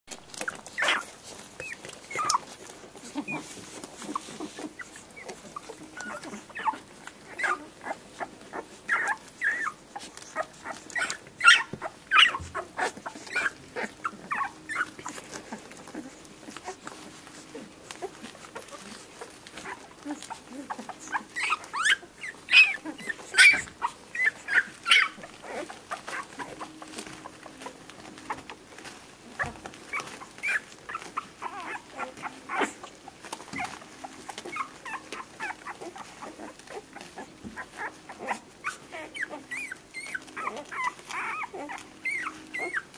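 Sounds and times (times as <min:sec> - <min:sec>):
puppy squeaking and whimpering: 0:00.1 - 0:42.9.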